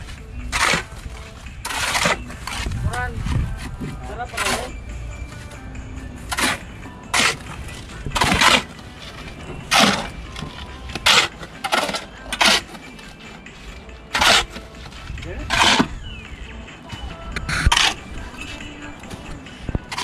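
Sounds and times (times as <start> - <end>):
gritty scraping strokes: 0.0 - 16.1, 16.9 - 20.0.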